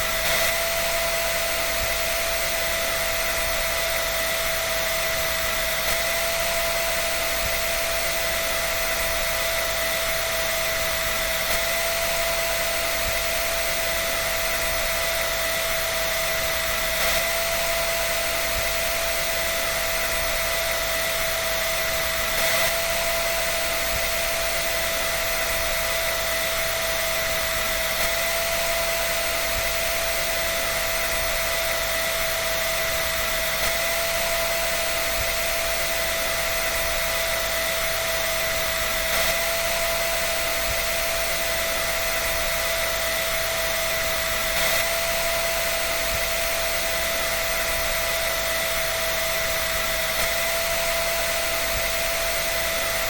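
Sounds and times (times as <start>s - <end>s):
hair dryer running: 0.0s - 53.0s.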